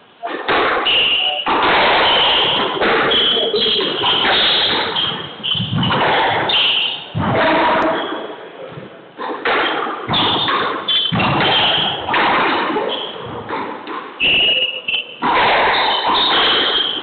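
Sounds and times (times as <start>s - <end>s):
squash balls hitting walls: 0.2s - 17.0s.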